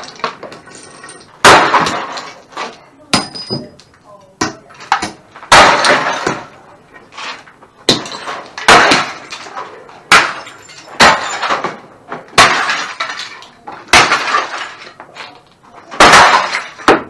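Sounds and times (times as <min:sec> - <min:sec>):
crowbar striking debris: 0:00.0 - 0:03.8, 0:04.4 - 0:06.6, 0:07.2 - 0:15.3, 0:15.9 - 0:17.0
glass breaking: 0:00.0 - 0:06.6, 0:07.8 - 0:17.0
debris clattering: 0:00.0 - 0:17.0.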